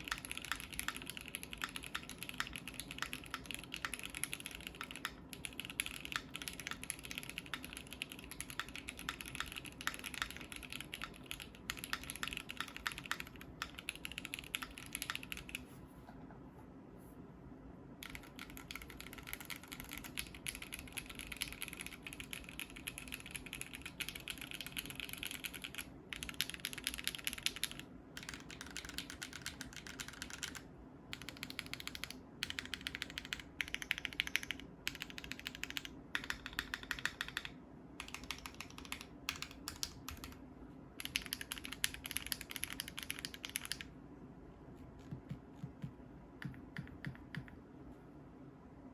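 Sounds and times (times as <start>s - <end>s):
typing on mechanical keyboard: 0.0s - 15.6s, 18.0s - 40.4s, 41.0s - 43.9s, 45.0s - 47.6s.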